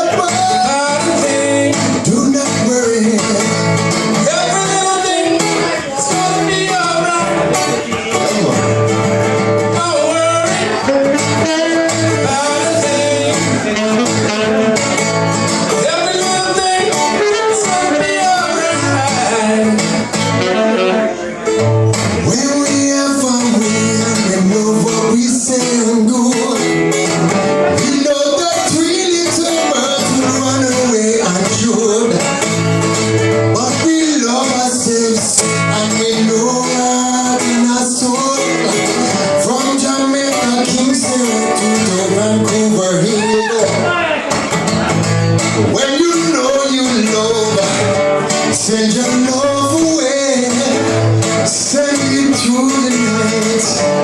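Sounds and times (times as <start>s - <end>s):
live reggae band: 0.0s - 54.0s
person singing: 0.0s - 54.0s
strummed guitars: 0.0s - 54.0s.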